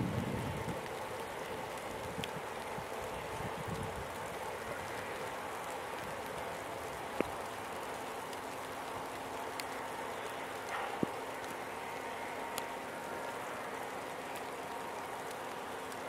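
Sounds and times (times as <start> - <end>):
faint steady hum: 0.0 - 16.0
rain hiss: 0.0 - 16.0.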